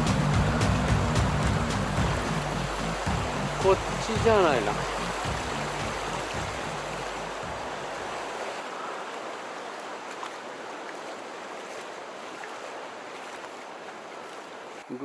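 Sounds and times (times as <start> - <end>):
river water rushing over rocks: 0.0 - 14.9.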